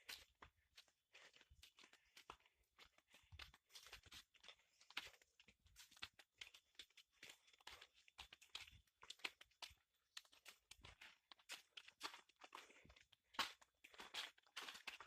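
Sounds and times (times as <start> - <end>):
crunching and rustling: 0.0 - 15.0.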